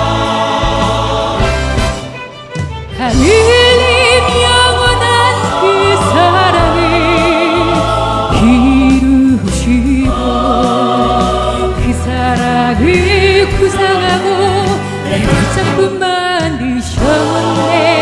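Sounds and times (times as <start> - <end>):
classical duet singing: 3.0 - 18.0.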